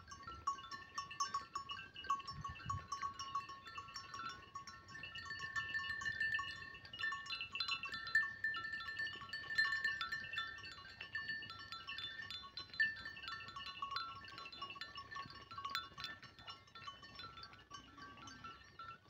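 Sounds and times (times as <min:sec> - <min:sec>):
livestock bells jangling: 0:00.0 - 0:19.0.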